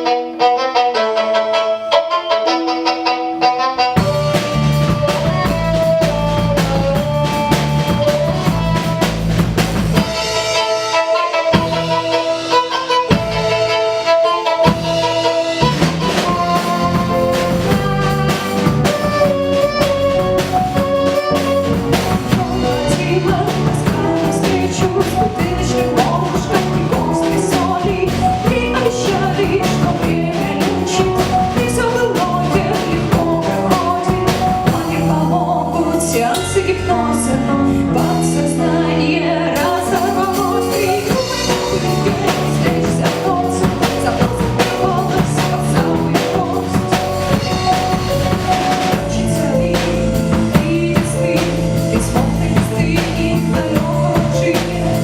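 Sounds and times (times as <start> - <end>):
live band playing upbeat song: 0.0 - 55.0
drum kit: 2.8 - 55.0.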